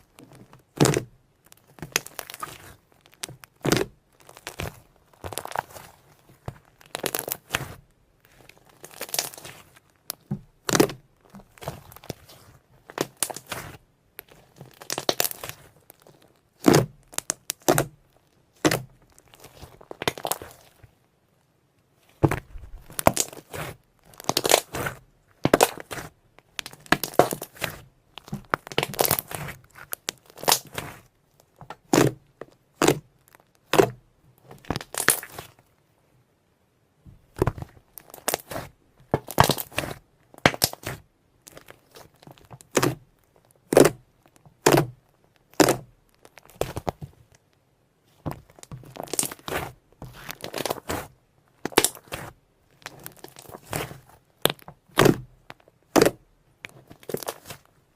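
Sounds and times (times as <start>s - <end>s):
slime crackling and popping: 0.0s - 20.8s, 22.2s - 35.6s, 37.3s - 57.7s.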